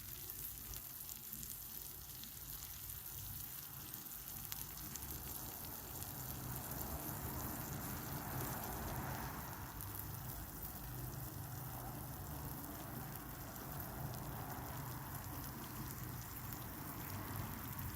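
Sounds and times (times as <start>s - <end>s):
cheese sizzling on a grill: 0.0s - 17.9s.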